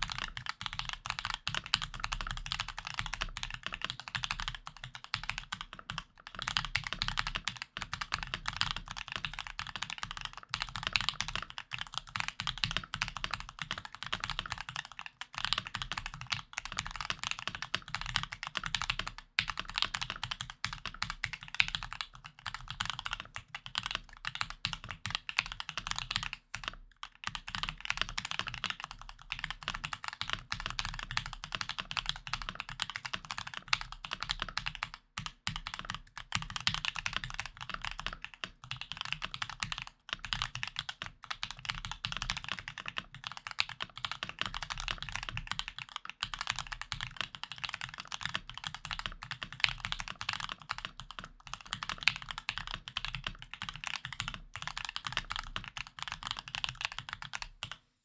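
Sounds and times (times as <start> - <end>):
mechanical keyboard typing: 0.0 - 57.8.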